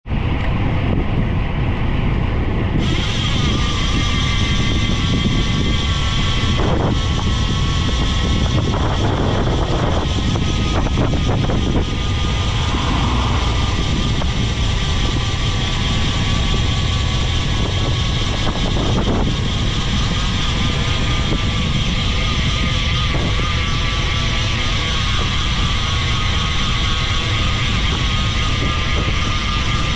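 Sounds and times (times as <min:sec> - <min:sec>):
wind rumble on microphone: 0:00.0 - 0:29.9.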